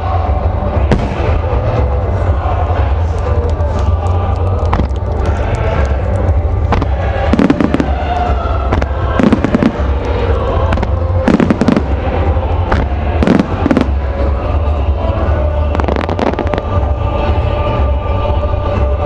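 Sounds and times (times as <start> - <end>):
music played over fireworks: 0.0 - 19.0.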